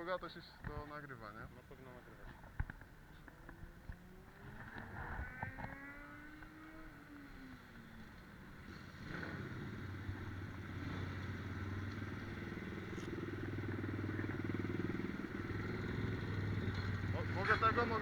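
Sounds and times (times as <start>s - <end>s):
small motorbike engines: 0.6s - 18.0s.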